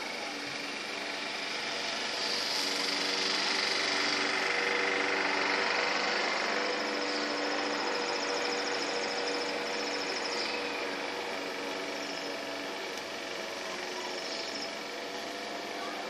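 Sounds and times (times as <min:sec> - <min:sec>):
insects trilling: 0:01.5 - 0:12.8, 0:13.5 - 0:15.9.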